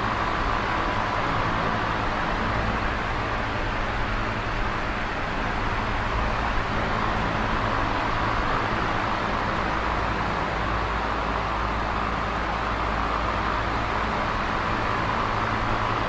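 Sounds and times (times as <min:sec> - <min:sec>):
electric fan air rush: 0:00.0 - 0:16.0
fan low hum: 0:00.0 - 0:16.0.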